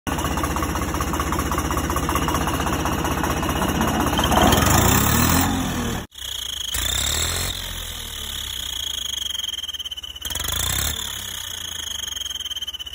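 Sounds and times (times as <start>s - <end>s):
tractor engine chugging: 0.0s - 12.9s.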